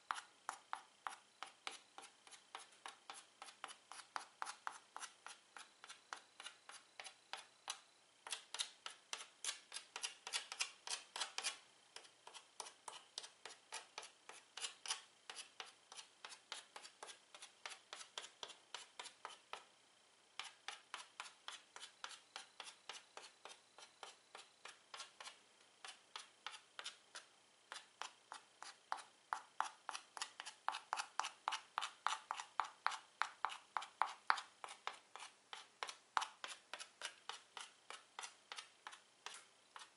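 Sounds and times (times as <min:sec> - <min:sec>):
chalk tapping on chalkboard: 0:00.0 - 0:19.7, 0:20.4 - 0:39.9.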